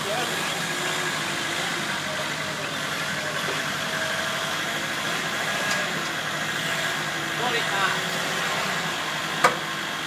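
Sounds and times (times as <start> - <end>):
forklift engine running: 0.0 - 10.0.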